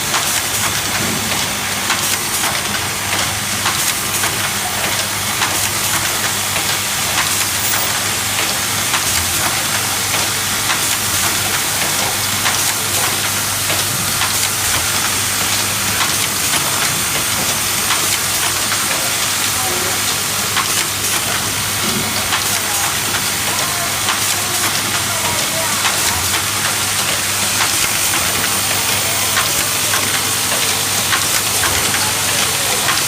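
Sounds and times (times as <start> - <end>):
machine clicks and rattles: 0.0 - 33.0.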